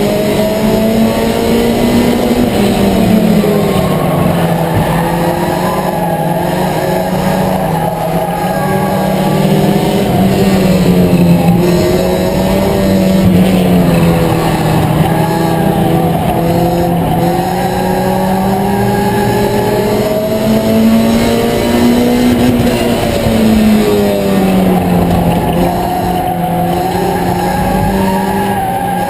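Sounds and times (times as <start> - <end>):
race car engine under load: 0.0 - 29.0.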